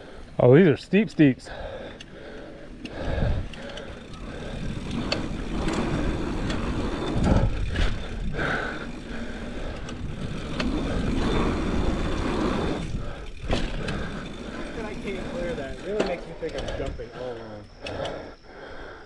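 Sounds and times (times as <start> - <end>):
bike tyres rolling on dirt: 0.0 - 16.8.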